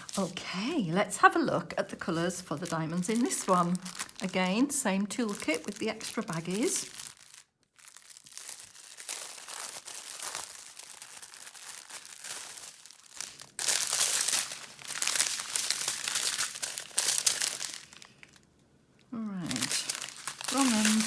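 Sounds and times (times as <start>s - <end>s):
plastic bags crinkling: 0.0s - 18.5s, 19.4s - 21.0s.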